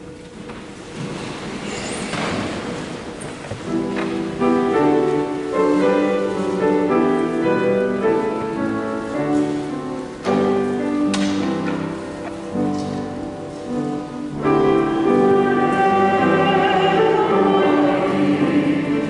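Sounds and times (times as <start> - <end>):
instrumental keyboard music: 3.6 - 19.0.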